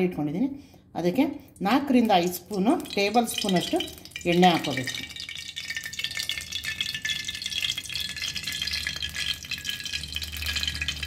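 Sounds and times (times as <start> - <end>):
oil crackling in metal pan: 1.6 - 11.0.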